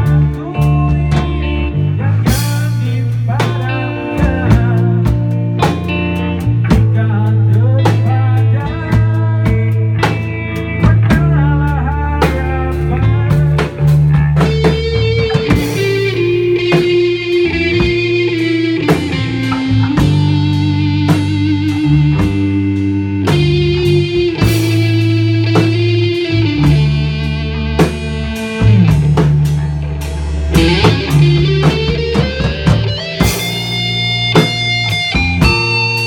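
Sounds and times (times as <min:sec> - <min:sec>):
drum kit with cymbal hits: 0:00.0 - 0:36.0
electric bass deep notes: 0:00.0 - 0:36.0
electric guitar melody: 0:00.0 - 0:36.0.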